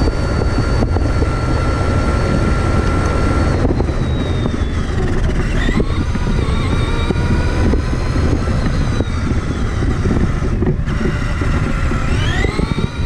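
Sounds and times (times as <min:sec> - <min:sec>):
electric motor and gears whining: 0:00.0 - 0:13.0
rough steady rumble: 0:00.0 - 0:13.0.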